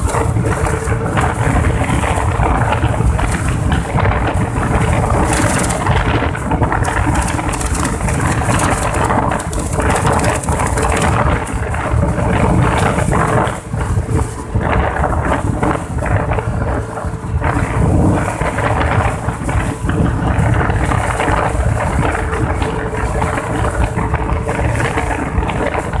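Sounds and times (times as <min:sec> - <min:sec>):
scooter engine running: 0:00.0 - 0:26.0
wind rumbling over microphone: 0:00.0 - 0:26.0.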